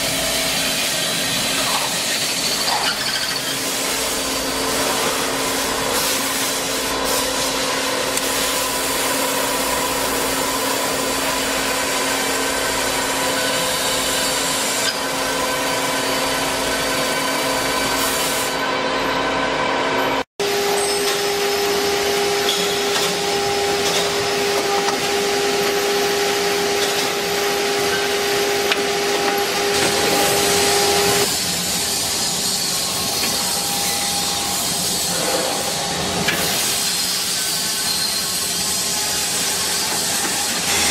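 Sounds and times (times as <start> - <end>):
drilling machine whine: 8.0 - 40.9.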